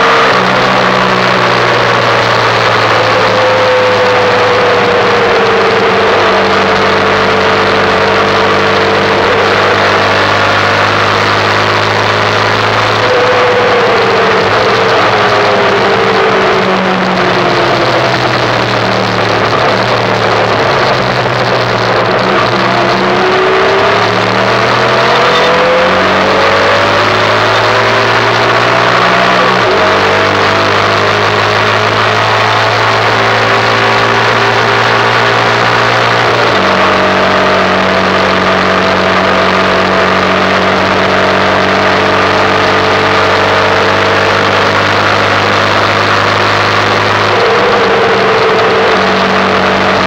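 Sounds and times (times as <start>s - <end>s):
motorcycle engine accelerating: 0.0s - 50.0s
wind and road noise: 0.0s - 50.0s.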